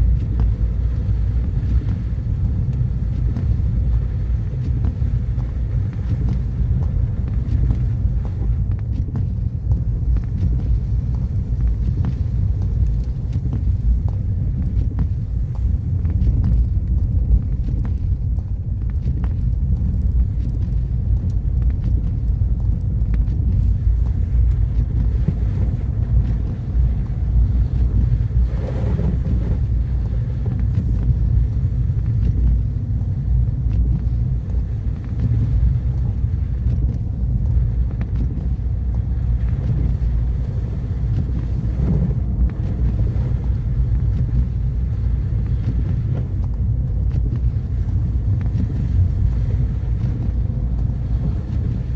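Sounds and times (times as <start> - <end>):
car engine and tyres rumbling: 0.0 - 51.9.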